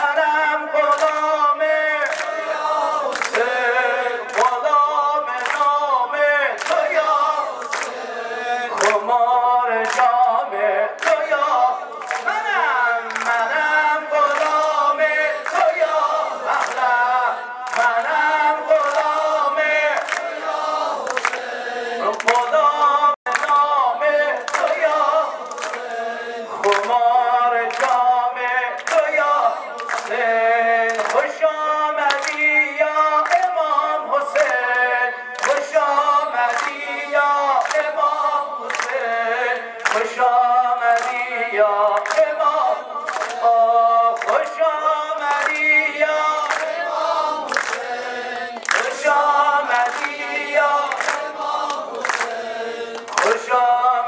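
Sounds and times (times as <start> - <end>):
man singing a lament: 0.0 - 54.0
voices chanting along: 0.0 - 54.0.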